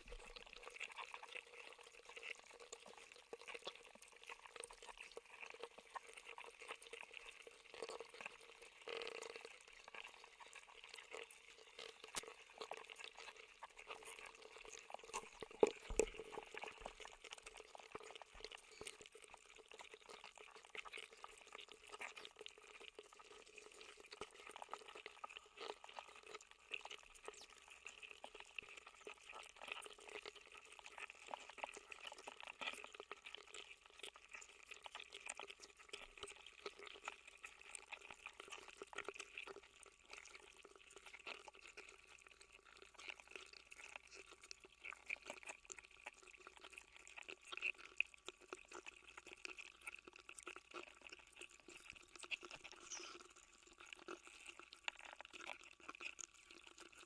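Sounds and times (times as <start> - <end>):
watery bubbling crackle: 0.0 - 57.0.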